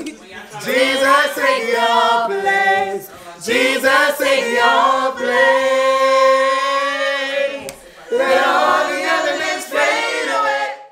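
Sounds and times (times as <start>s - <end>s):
group singing worship song: 0.4s - 10.9s.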